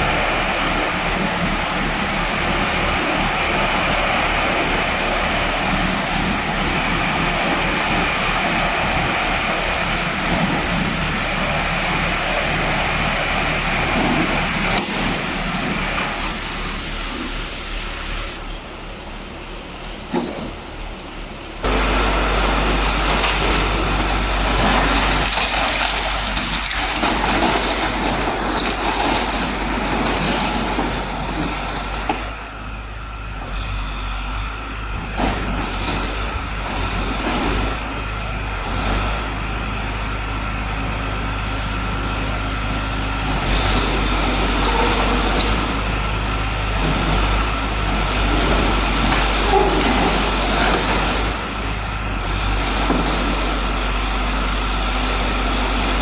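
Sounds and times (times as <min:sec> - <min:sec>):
baler engine running: 0:00.0 - 0:56.0.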